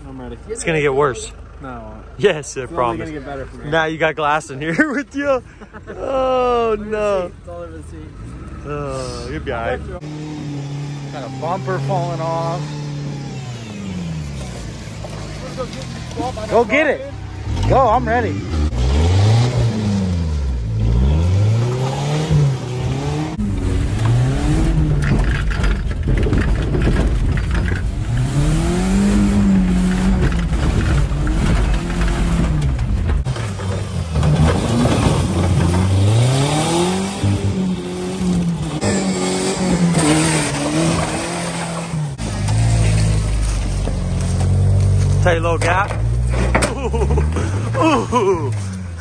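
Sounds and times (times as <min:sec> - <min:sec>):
truck engine revving: 0:08.0 - 0:49.0.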